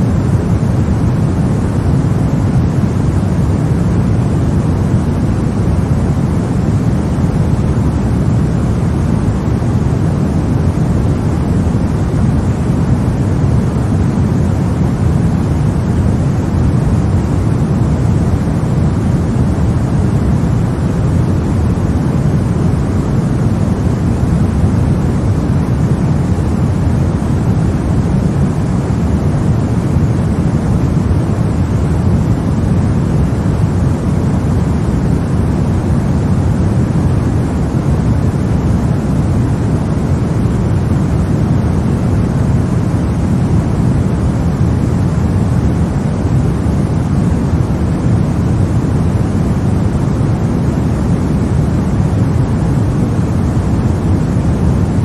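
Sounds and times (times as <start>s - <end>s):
deep rumbling hiss: 0.0s - 55.0s.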